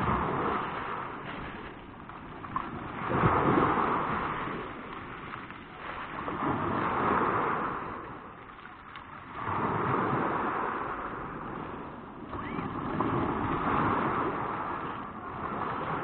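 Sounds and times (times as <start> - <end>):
waves breaking on pebble beach: 0.0 - 16.0.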